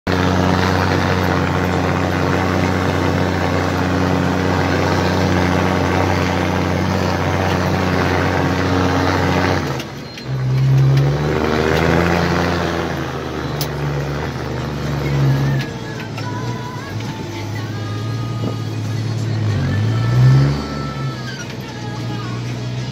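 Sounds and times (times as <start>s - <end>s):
diesel tractor engine running: 0.0s - 22.9s.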